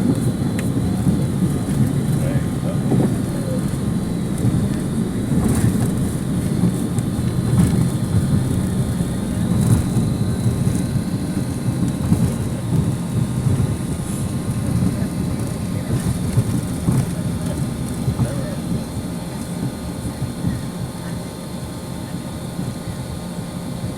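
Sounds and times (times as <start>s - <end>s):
aircraft cabin rumble: 0.0s - 23.9s.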